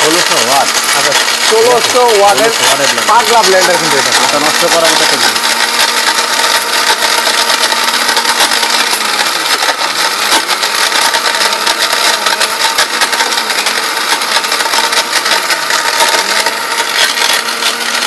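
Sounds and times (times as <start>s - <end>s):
mixer grinder whirring: 0.0s - 18.0s.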